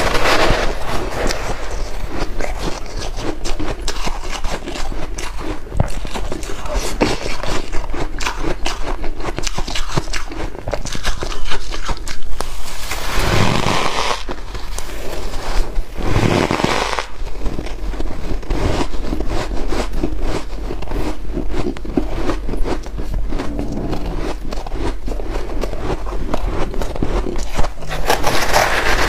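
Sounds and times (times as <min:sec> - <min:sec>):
ice crunching between teeth: 0:00.0 - 0:29.0.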